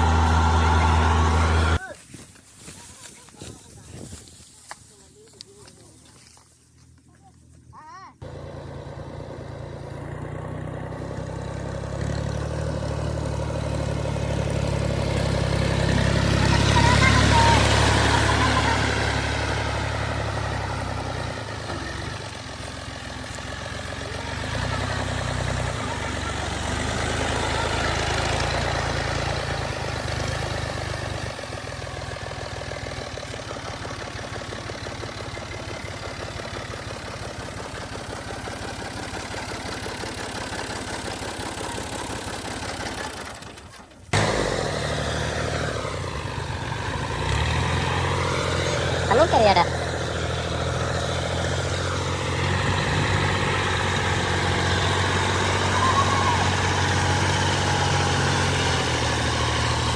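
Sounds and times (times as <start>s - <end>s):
combine harvester engine running: 0.0s - 2.0s, 8.2s - 59.9s.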